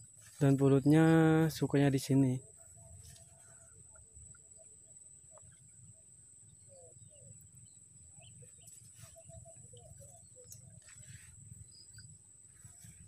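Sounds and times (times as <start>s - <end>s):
bird chirping: 0.0s - 13.0s
steady high-pitched whine: 0.0s - 13.0s.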